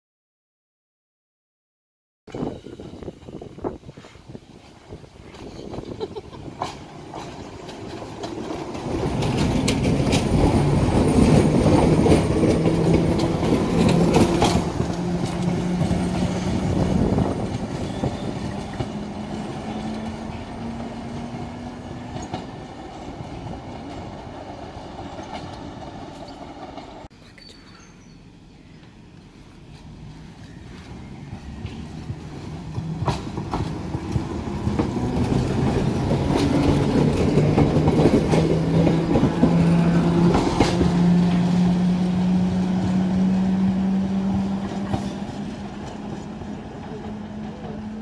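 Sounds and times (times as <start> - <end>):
electric train hum: 2.3 - 27.1, 28.2 - 48.0
wheels clattering on rail: 2.3 - 27.7, 29.7 - 48.0.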